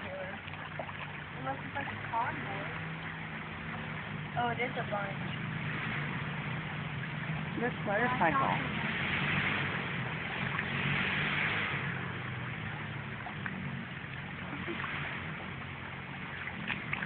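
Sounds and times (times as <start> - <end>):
creek rushing: 0.0 - 17.0
motorcycle engine running: 0.0 - 17.0.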